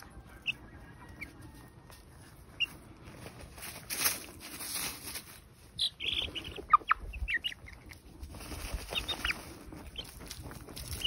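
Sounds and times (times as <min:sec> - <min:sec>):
chicks peeping and clucking: 0:00.0 - 0:11.0
feathers rustling in dirt: 0:00.0 - 0:11.0.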